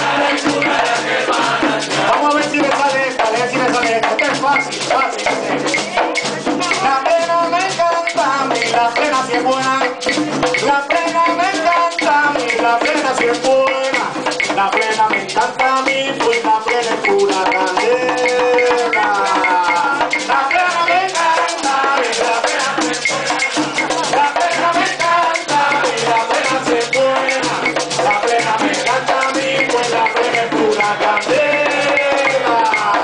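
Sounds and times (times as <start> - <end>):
hand frame drums beating: 0.0 - 33.0
man singing lead: 0.0 - 33.0.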